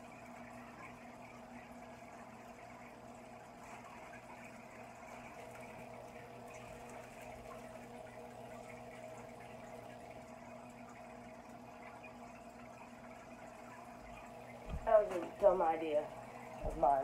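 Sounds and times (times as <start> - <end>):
bubbling gurgling water: 0.0 - 17.0
constant low hum: 0.0 - 17.0.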